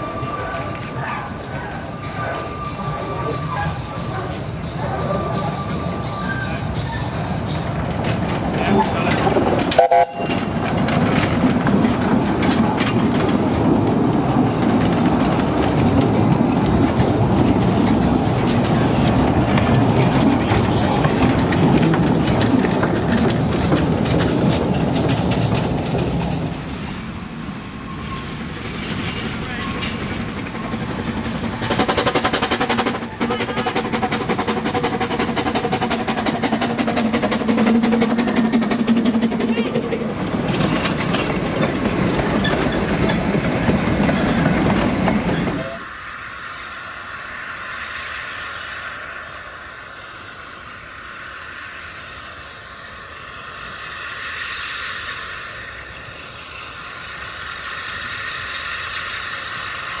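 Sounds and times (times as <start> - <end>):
steam train clattering past: 0.0 - 60.0.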